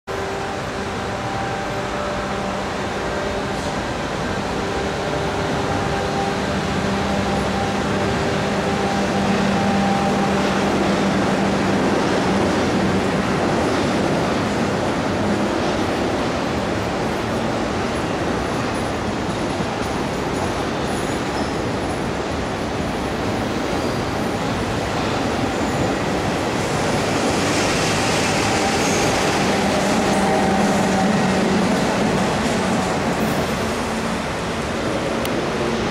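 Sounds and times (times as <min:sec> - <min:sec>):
train wheels rumbling on rail: 0:00.1 - 0:35.9.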